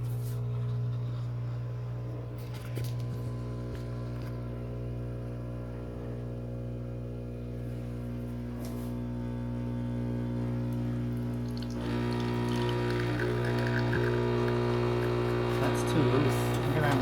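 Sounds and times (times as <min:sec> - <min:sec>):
espresso machine pump humming: 0:00.0 - 0:17.0.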